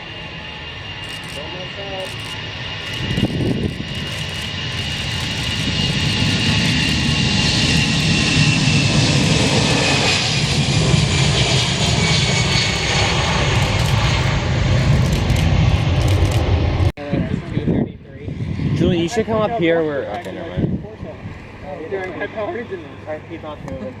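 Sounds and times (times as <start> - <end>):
high engine whine: 0.0 - 23.8
airliner engines rumbling: 0.0 - 24.0.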